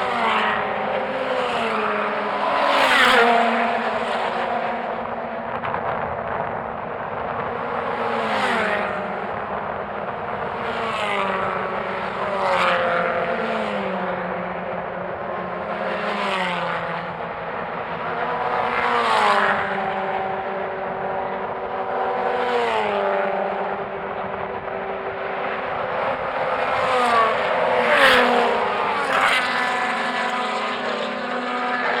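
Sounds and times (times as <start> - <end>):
racing cars passing at speed: 0.0 - 32.0.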